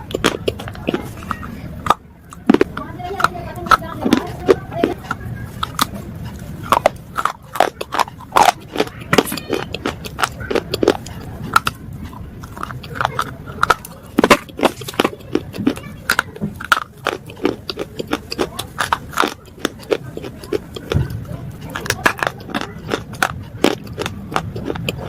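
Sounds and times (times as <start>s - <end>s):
slate pieces crunching: 0.0s - 25.0s.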